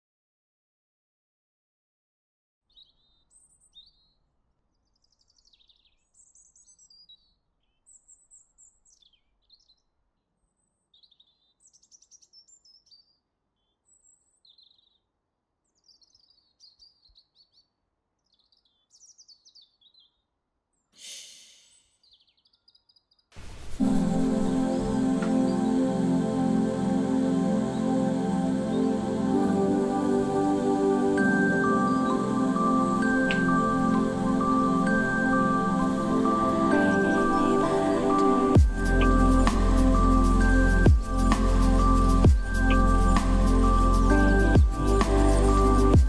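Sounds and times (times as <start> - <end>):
songbird chirping: 2.7 - 46.0.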